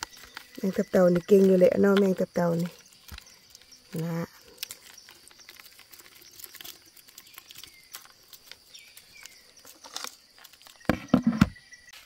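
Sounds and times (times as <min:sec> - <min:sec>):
faint scattered ticks: 0:00.0 - 0:10.9.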